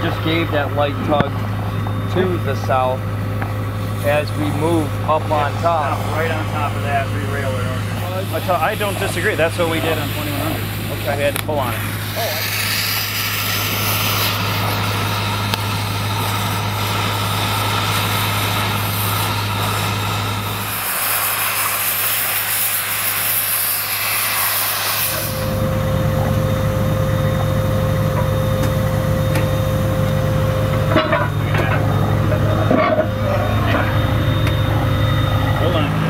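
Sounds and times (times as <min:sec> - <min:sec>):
cutting torch hissing: 0:00.0 - 0:36.0
engine drone with whine: 0:00.0 - 0:36.0
engine humming: 0:00.0 - 0:36.0.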